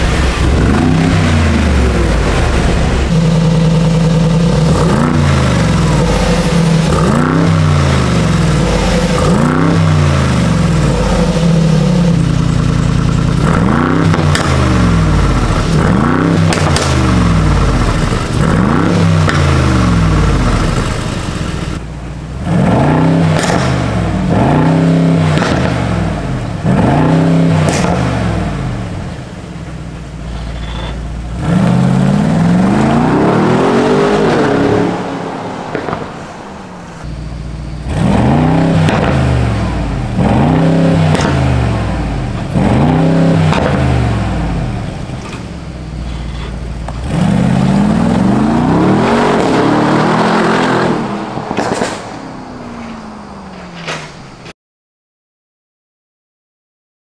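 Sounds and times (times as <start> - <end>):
car engine revving: 0.0 - 54.5.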